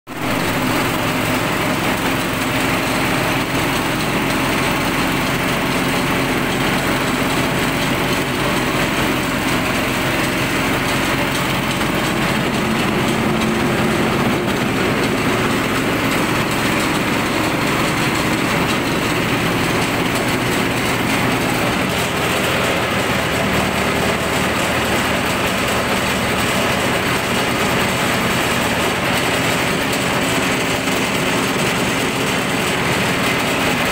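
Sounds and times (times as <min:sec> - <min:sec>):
petrol engine running: 0:00.1 - 0:33.9.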